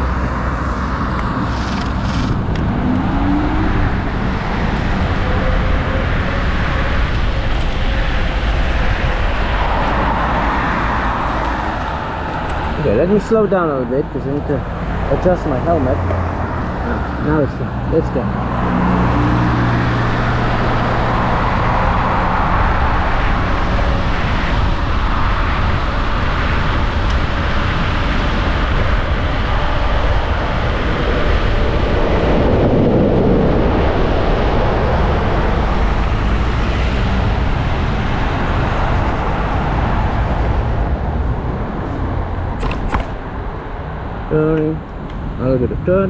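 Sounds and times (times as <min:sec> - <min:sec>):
rushing road noise: 0:00.0 - 0:46.0
wind buffeting: 0:00.0 - 0:46.0.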